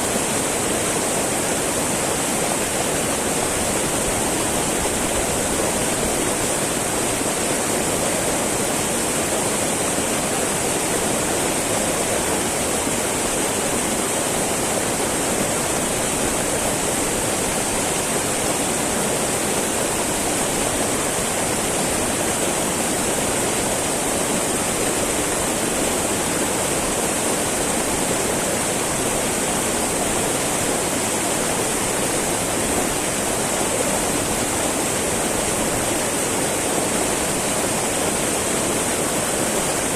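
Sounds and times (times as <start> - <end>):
river babbling over rocks: 0.0 - 39.9.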